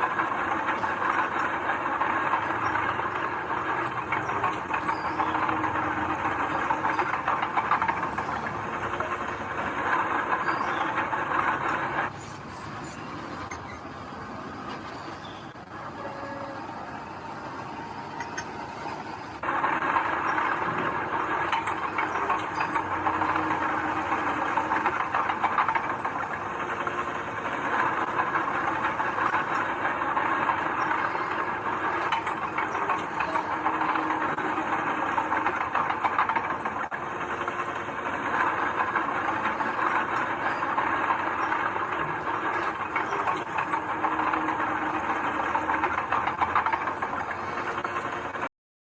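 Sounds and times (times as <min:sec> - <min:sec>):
diesel engine running: 0:00.0 - 0:48.4
machinery clattering and hissing: 0:00.0 - 0:48.5.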